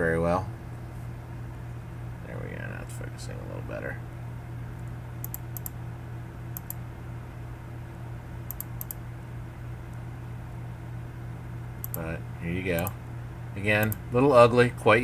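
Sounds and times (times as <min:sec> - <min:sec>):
computer electrical hum: 0:00.0 - 0:15.0.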